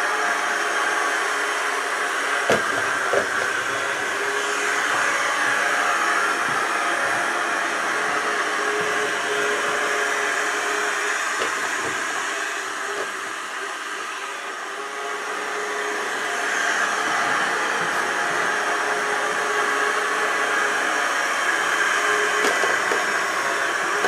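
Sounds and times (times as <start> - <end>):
robot vacuum cleaner whirring: 0.0 - 24.0.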